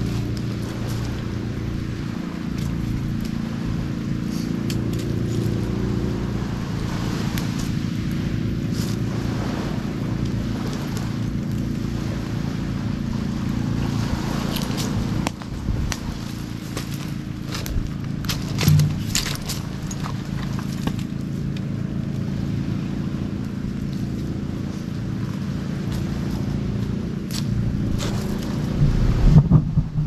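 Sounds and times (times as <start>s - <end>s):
water splashes: 0.0s - 27.2s
boat engine running: 0.0s - 30.0s.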